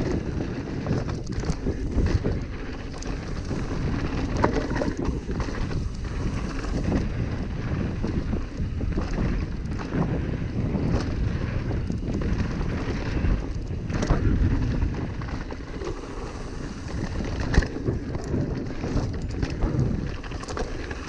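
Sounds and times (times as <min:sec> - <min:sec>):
mountain bike rattling on dirt trail: 0:00.0 - 0:21.0
wind buffeting microphone: 0:00.0 - 0:21.0.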